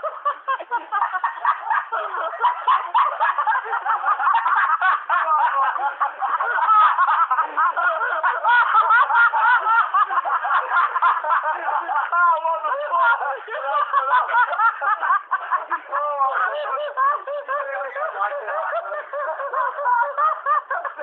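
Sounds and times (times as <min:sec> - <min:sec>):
people laughing together: 0:00.0 - 0:21.0.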